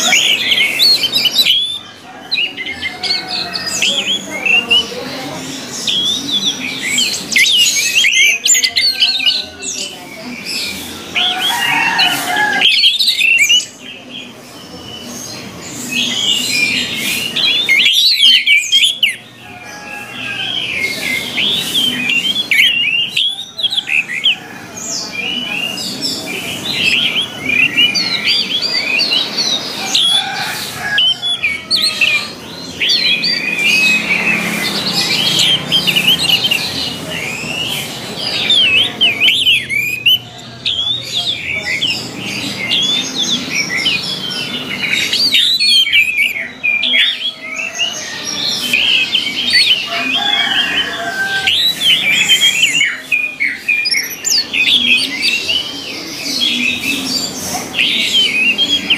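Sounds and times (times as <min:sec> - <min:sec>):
thrushes singing: 0:00.0 - 0:58.9.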